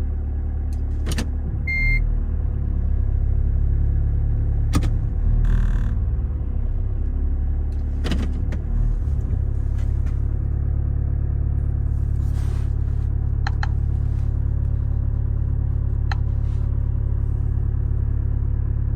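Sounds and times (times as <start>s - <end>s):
car engine low rumble: 0.0s - 18.9s.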